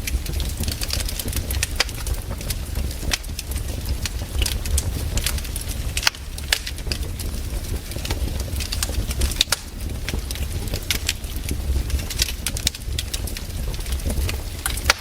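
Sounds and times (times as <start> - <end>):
campfire crackling and snapping: 0.0 - 15.0
low fire rumble: 0.0 - 15.0.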